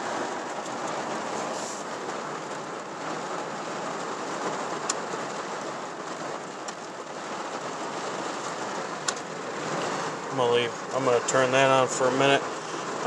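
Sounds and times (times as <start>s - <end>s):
heavy rain drumming on truck roof: 0.0s - 13.0s.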